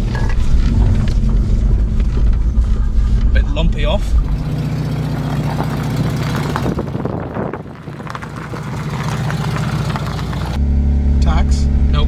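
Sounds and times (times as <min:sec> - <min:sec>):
car engine running lumpy: 0:00.0 - 0:10.6.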